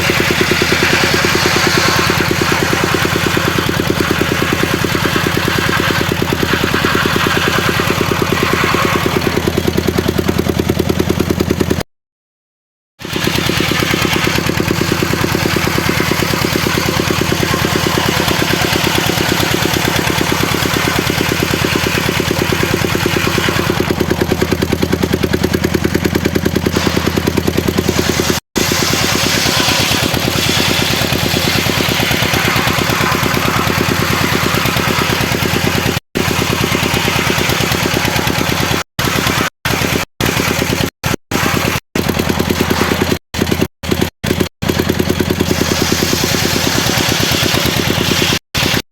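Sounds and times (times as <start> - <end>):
sawmill engine running: 0.0 - 11.8, 13.0 - 48.8.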